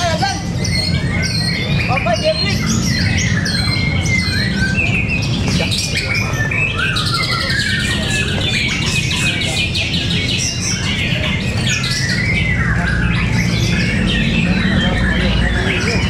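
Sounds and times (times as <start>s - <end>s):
birds singing and whistling: 0.0s - 16.0s.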